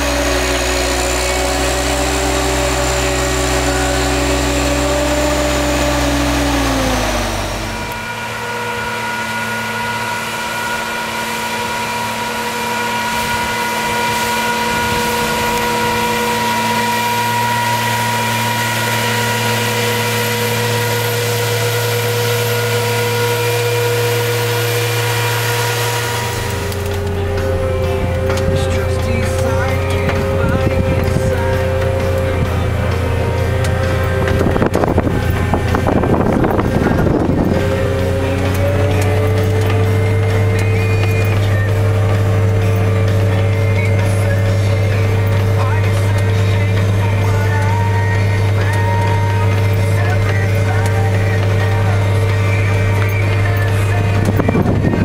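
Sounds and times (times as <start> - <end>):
sprayer engine running: 0.0 - 55.0.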